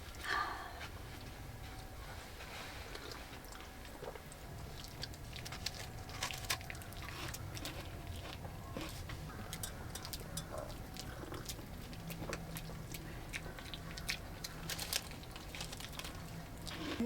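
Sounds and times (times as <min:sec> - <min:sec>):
steady low hum: 0:00.0 - 0:17.0
chewing crunching clicks: 0:02.9 - 0:17.0.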